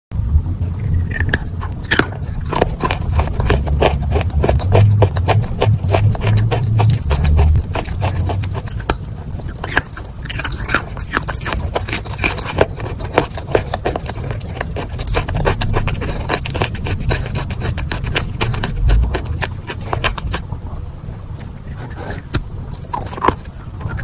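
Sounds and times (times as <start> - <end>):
low rumble: 0.2 - 24.0
chalk crunching and chewing: 0.7 - 20.6, 21.4 - 24.0.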